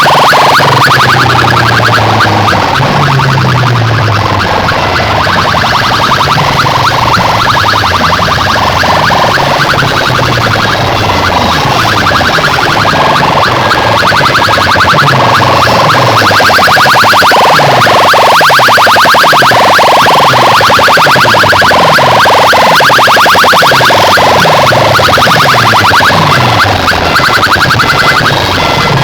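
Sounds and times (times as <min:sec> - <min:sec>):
deep bass tone sweeping downward: 0:00.0 - 0:29.0
rapid buzzing beeps: 0:00.0 - 0:29.0.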